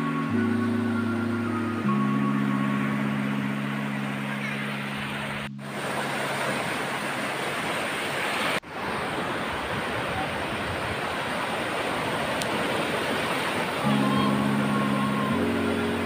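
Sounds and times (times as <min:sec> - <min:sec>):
waves breaking in shallows: 0:00.0 - 0:16.0.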